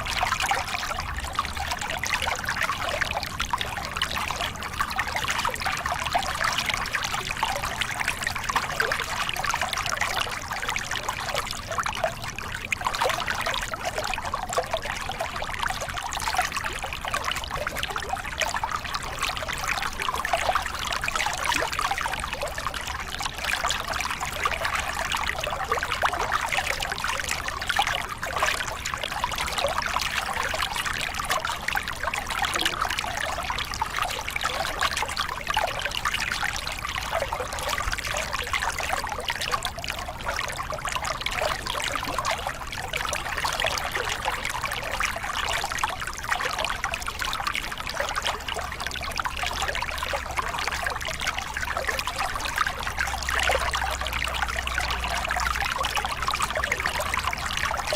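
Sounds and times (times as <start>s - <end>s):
water pouring over rocks: 0.0s - 57.9s.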